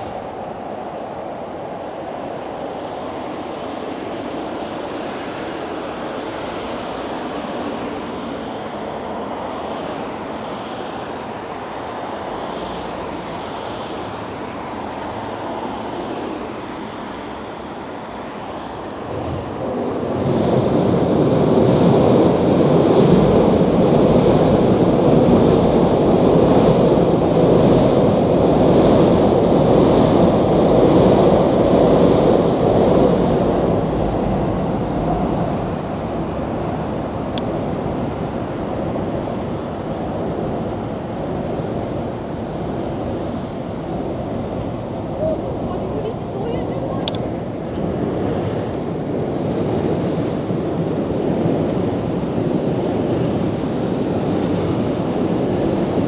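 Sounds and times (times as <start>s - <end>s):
street noise: 0.0s - 56.0s
wind rushing over microphone: 0.0s - 56.0s.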